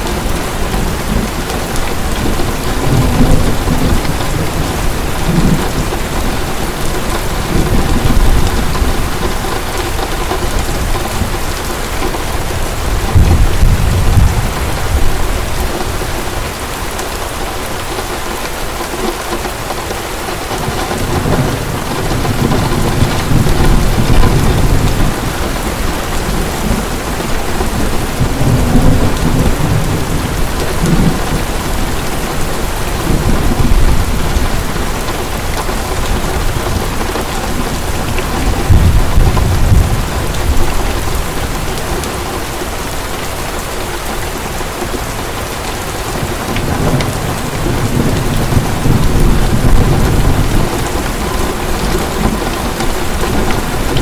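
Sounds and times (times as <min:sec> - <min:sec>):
low rolls of thunder: 0:00.0 - 0:16.7, 0:20.5 - 0:42.6, 0:46.0 - 0:54.0
heavy rain: 0:00.0 - 0:54.0.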